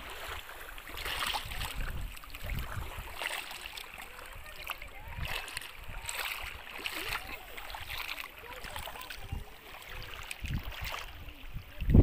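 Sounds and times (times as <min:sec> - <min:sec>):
small waves lapping at shore: 0:00.0 - 0:12.0
faint distant voices: 0:01.5 - 0:12.0.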